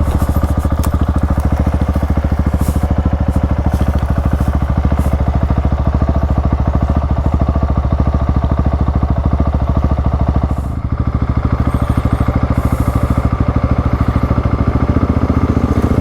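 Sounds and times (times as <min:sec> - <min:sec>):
dirt bike engine pulsing: 0:00.0 - 0:16.0.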